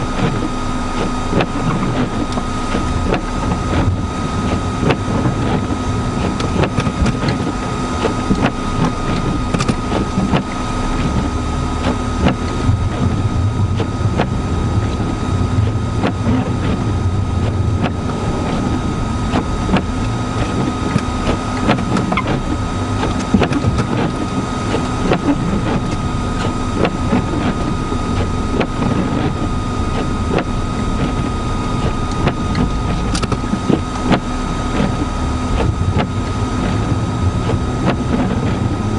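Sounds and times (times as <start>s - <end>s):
engine tyres and wind rumble: 0.0s - 38.9s
faint whine: 0.0s - 38.9s.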